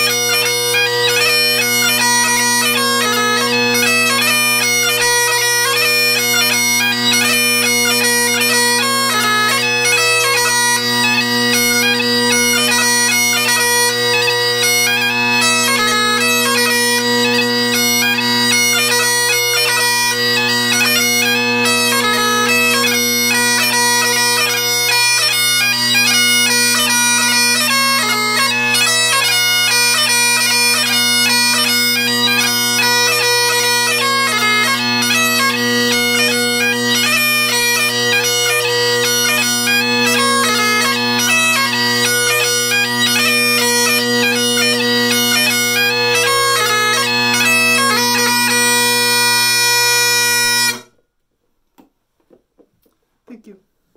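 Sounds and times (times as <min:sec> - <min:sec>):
bagpipe chanter melody: 0:00.0 - 0:51.0
bagpipe drones: 0:00.0 - 0:51.0.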